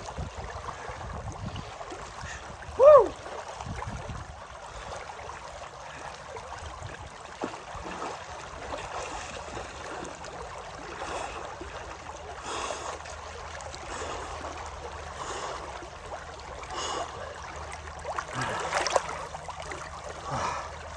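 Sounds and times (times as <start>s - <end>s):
water running in a stream: 0.0s - 20.9s.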